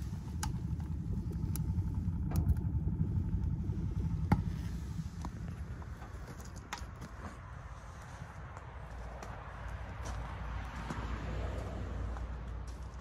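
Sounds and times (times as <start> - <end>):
wood fire rumbling in stove: 0.0 - 10.8.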